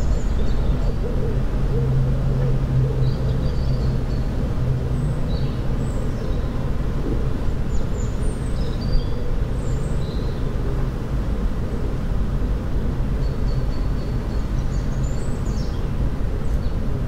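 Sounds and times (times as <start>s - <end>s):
engine rumble: 0.0s - 17.0s
songbirds chirping: 0.0s - 17.0s.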